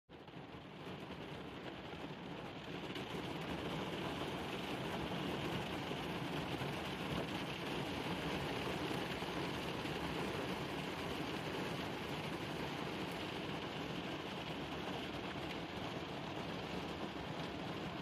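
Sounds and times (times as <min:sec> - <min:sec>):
rain on vehicle roof: 0:00.1 - 0:18.0.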